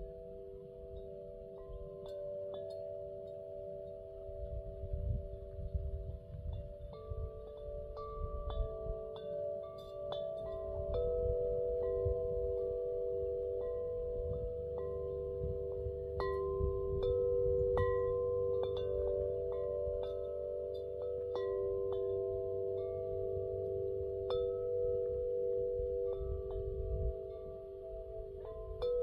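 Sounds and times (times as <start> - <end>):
metal wind chimes ringing: 0.0 - 29.0.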